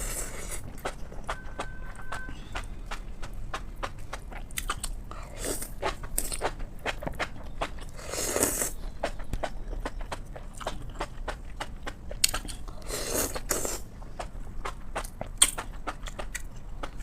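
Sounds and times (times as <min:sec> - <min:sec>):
crunchy chewing of food: 0:00.0 - 0:17.0.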